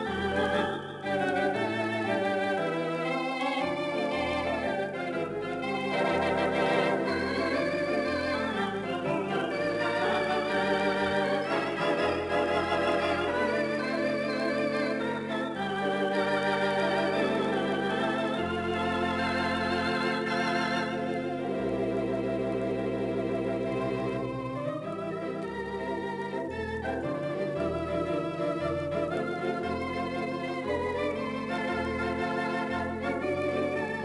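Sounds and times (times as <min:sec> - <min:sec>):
low organ bass notes: 0:00.0 - 0:34.0
theatre organ chords: 0:00.0 - 0:34.0.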